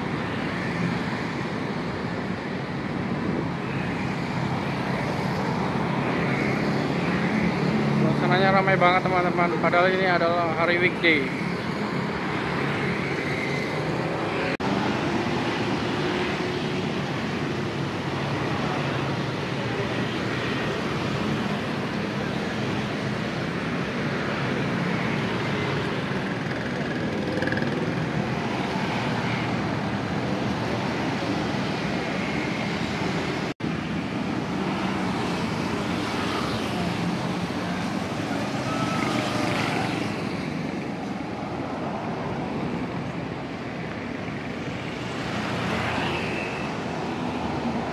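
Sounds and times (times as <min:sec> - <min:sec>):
busy city street traffic: 0:00.0 - 0:47.9.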